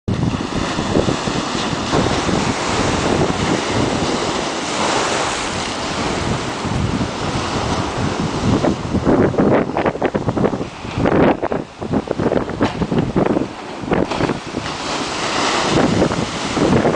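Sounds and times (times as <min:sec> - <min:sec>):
waves crashing on stone seawall: 0:00.1 - 0:16.9
wind buffeting microphone: 0:00.1 - 0:16.9.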